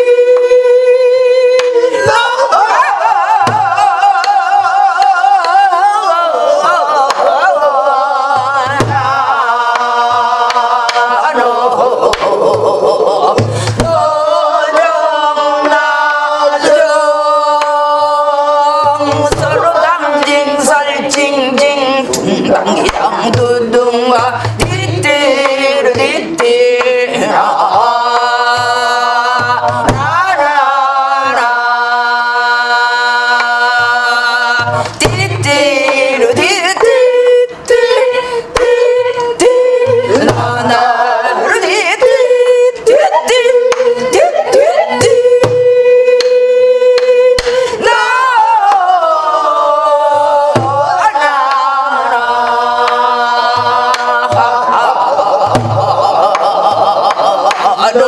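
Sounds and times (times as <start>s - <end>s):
woman singing wordless syllables: 0.0s - 58.0s.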